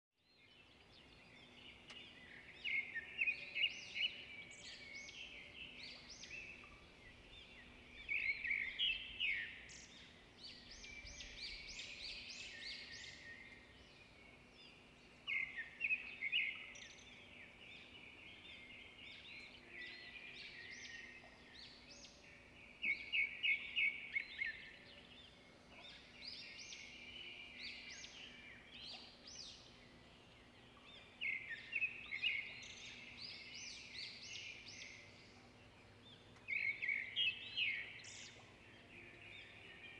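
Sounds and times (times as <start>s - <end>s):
faint background noise: 0.2s - 39.9s.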